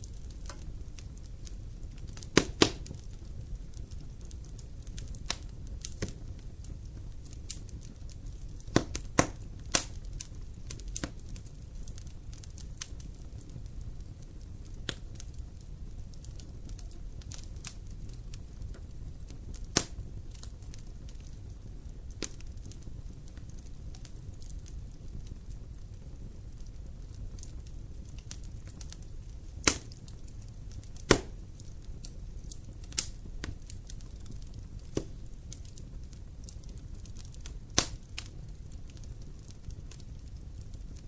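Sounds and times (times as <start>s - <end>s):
wood fire crackling and popping: 0.0s - 41.0s.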